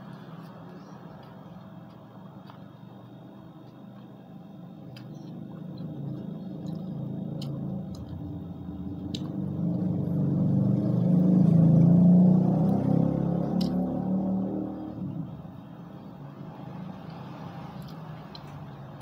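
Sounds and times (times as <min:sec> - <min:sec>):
motor vehicle engine hum: 0:00.0 - 0:19.0.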